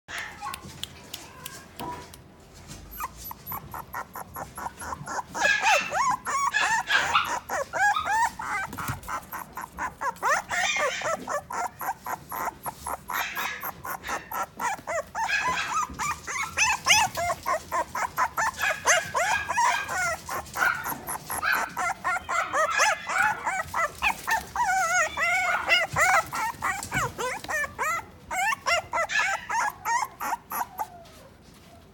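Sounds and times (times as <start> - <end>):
puppies whining and yipping: 2.7 - 31.9.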